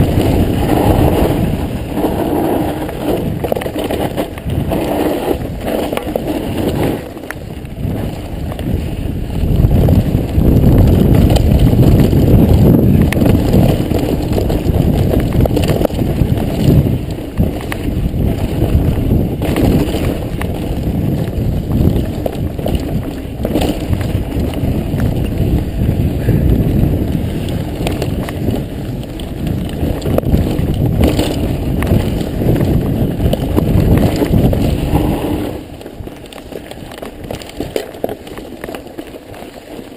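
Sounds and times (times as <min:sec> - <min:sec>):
bike rattling over bumps: 0:00.0 - 0:39.9
tyres rolling over dirt: 0:00.0 - 0:39.9
wind buffeting microphone: 0:00.0 - 0:39.9.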